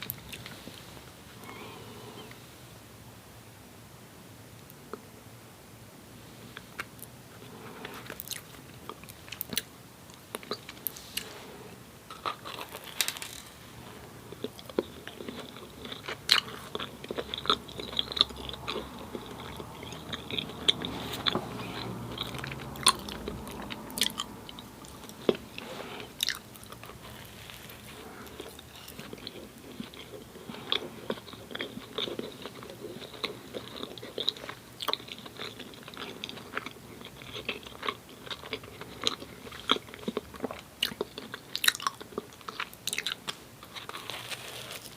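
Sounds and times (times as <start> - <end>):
person chewing food: 0.0 - 2.4, 6.5 - 44.9.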